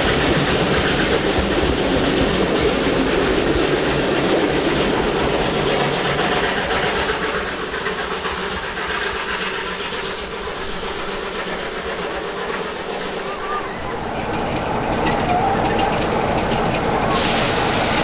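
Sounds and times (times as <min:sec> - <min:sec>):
train passing: 0:00.0 - 0:18.0.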